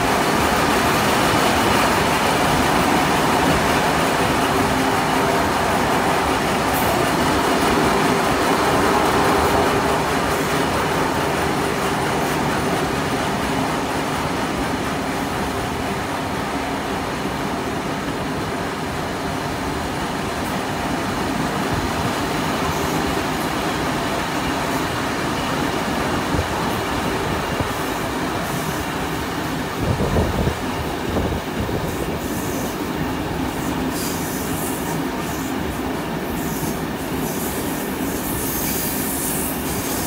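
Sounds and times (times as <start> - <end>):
rumble of train wheels on rails: 0.0 - 40.0.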